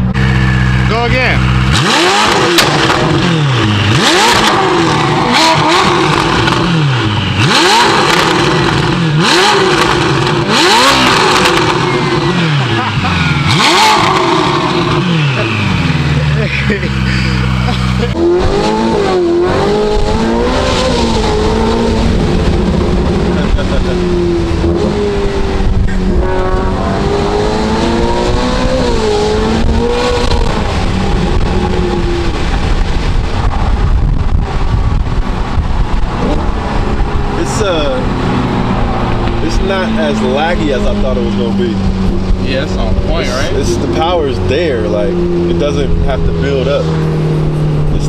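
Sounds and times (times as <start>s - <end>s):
car engine revving hard: 0.0s - 48.0s
heavy low road rumble: 0.0s - 48.0s.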